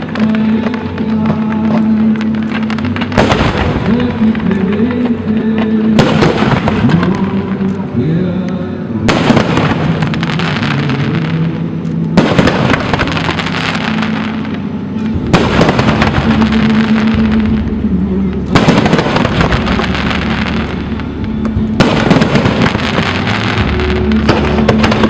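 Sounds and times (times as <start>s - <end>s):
fireworks crackling and popping: 0.0s - 8.2s, 9.0s - 25.0s.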